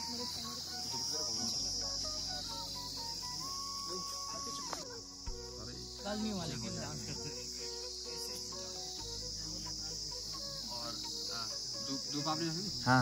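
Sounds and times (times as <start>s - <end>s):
insects shrilling: 0.0s - 13.0s.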